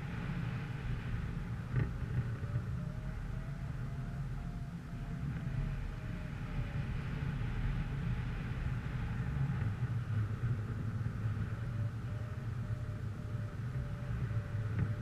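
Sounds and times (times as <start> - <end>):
faint whine: 0.0 - 15.0
vehicle engine rumbling: 0.0 - 15.0.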